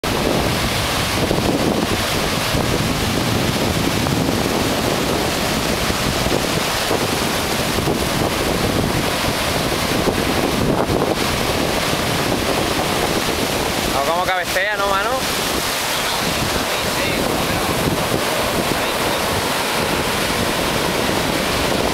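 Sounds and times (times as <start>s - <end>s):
ocean surf breaking: 0.0s - 21.9s
wind buffeting microphone: 0.0s - 21.9s.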